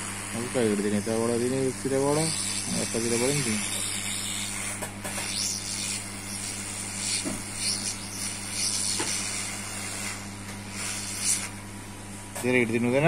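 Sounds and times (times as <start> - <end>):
air hissing: 0.0 - 11.6
low electrical hum: 0.0 - 13.0.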